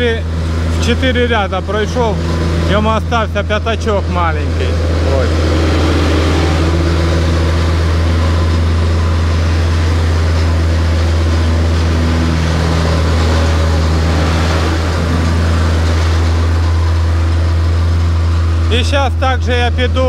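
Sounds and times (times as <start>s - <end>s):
plate compactor engine hum: 0.0s - 20.0s
rattling vibration: 0.0s - 20.0s.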